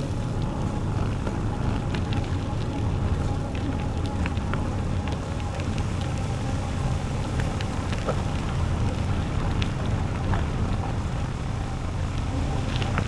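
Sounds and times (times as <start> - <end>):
bicycle tyres on path: 0.0 - 13.0
small crackling ticks: 0.0 - 13.0
wind on microphone: 0.0 - 13.0.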